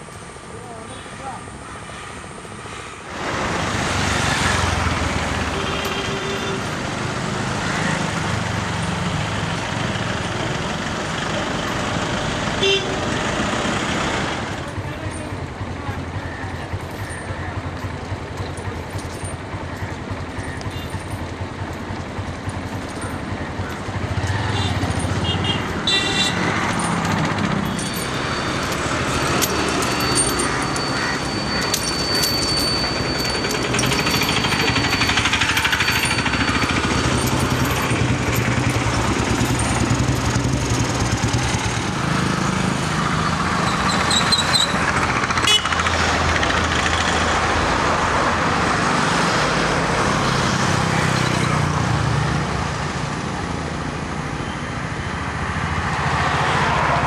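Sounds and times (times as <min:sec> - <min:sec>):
motorcycle and car engines: 0:03.1 - 0:57.0.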